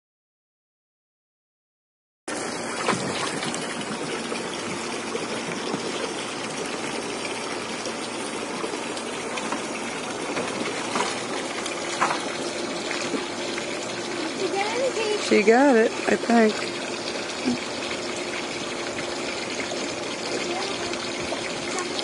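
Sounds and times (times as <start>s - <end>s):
water gushing: 2.3s - 22.0s
water splashes: 2.3s - 22.0s.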